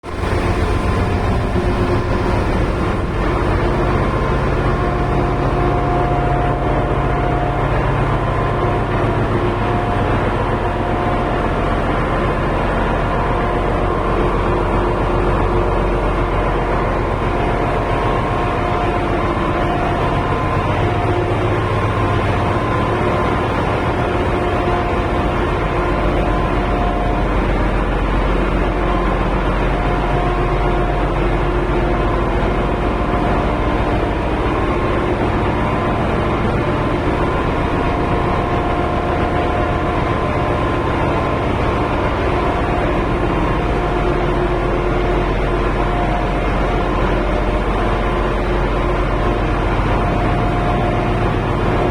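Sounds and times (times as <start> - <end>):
engine room machinery din: 0.0 - 51.9
machinery whining tones: 0.1 - 51.9.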